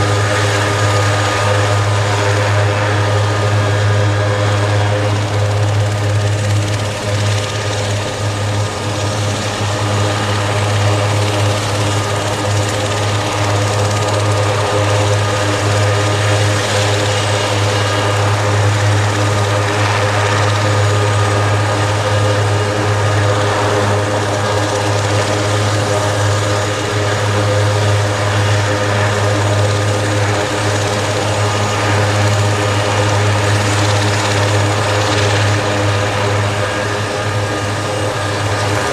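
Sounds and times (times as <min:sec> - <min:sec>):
helicopter turbine whine: 0:00.0 - 0:38.9
low rotor hum: 0:00.0 - 0:38.9.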